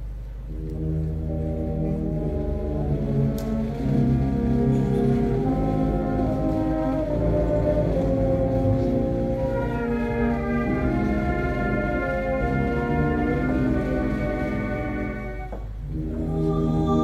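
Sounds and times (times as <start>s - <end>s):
brass band playing: 0.4s - 17.0s.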